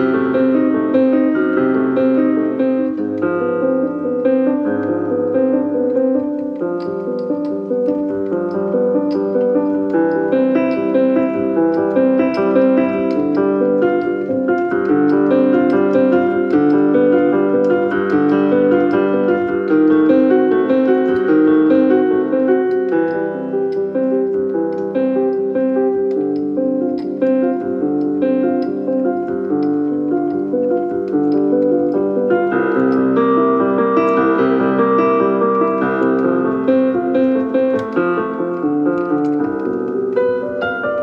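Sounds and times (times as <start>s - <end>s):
piano playing quick notes: 0.0s - 41.0s.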